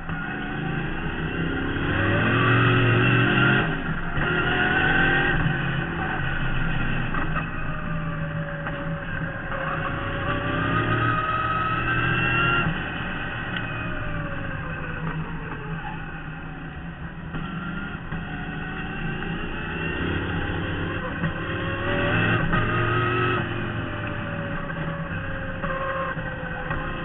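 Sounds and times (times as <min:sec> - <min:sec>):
race car engine accelerating: 0:00.0 - 0:27.0.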